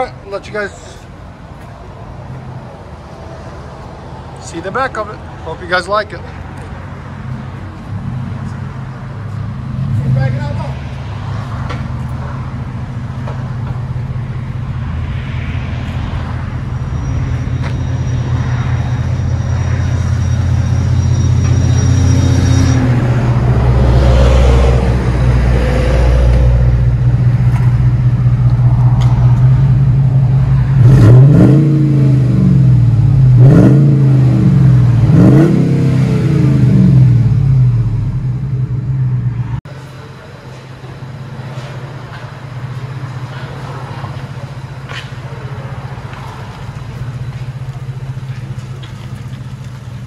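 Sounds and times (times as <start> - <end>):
truck engine idling and revving: 0.0 - 50.0.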